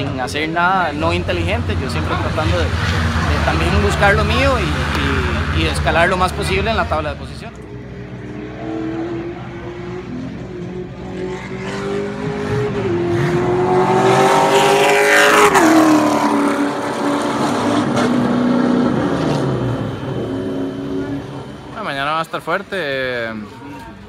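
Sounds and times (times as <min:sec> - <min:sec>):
other engines running: 0:00.0 - 0:22.7
race car engine passing: 0:00.8 - 0:22.1.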